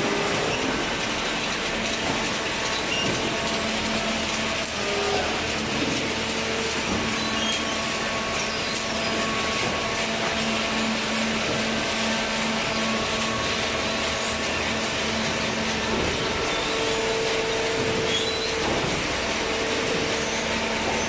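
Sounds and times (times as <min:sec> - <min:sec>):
baler machine hum and hiss: 0:00.0 - 0:21.0.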